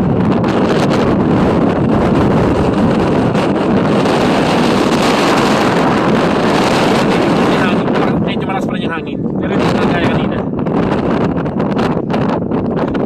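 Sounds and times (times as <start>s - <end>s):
snowstorm wind on microphone: 0.0s - 13.0s.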